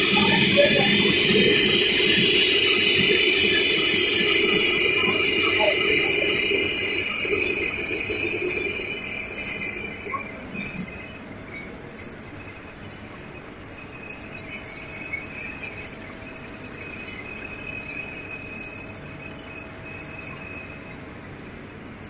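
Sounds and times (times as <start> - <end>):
high-pitched whine: 0.0 - 22.0
machinery hum and hiss: 0.0 - 22.0.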